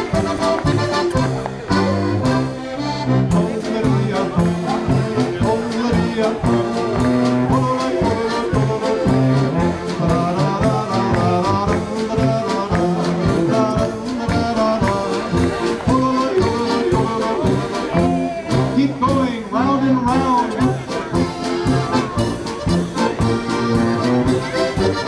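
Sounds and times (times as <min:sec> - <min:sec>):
accordion: 0:00.0 - 0:25.0
oompah band march: 0:00.0 - 0:25.0.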